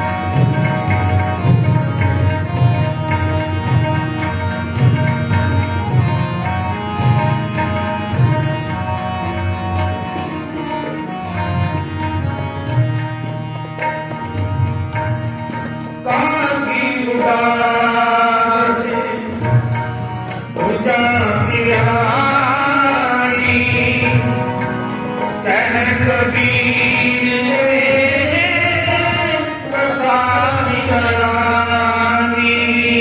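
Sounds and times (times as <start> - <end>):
sustained melodic notes: 0.0 - 31.6
tabla beat: 0.0 - 33.0.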